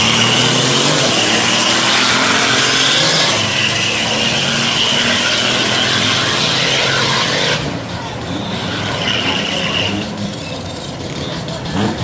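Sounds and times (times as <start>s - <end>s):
truck engine at full throttle: 0.0s - 12.0s.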